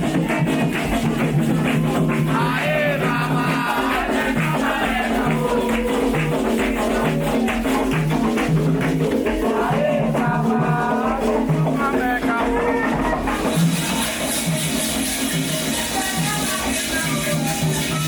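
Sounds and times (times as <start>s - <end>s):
shaken rattle: 0.0s - 12.2s, 13.2s - 18.0s
people singing: 0.0s - 18.0s
steady percussion: 0.0s - 18.0s.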